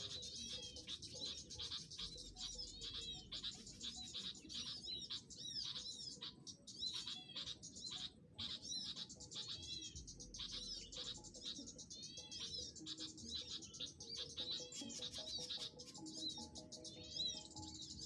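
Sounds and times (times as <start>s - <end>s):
small songbirds chirping: 0.0s - 18.0s.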